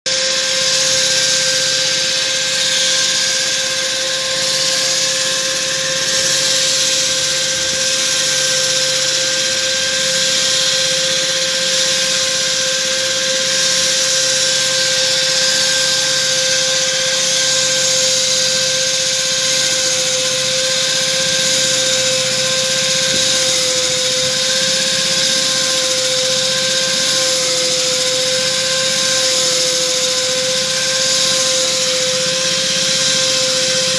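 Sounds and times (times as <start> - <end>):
core drill cutting concrete: 0.0 - 33.9.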